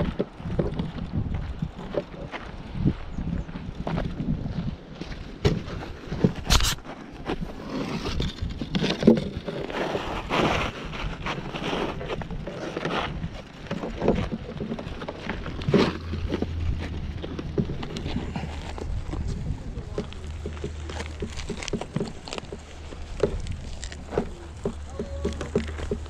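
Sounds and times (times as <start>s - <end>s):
footsteps on gravelly dirt path: 0.0s - 26.0s.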